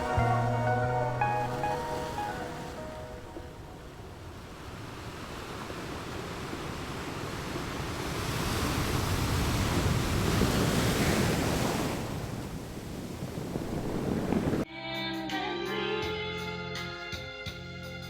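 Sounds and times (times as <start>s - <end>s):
ocean waves on beach: 0.0s - 14.7s
wind on microphone: 0.0s - 14.7s.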